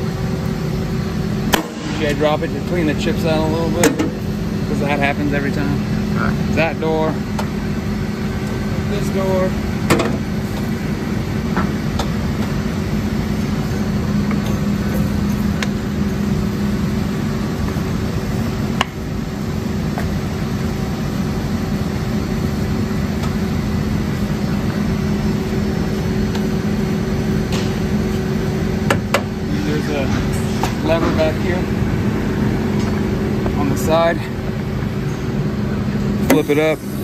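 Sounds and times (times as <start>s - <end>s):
hydraulic unit humming: 0.0s - 37.0s.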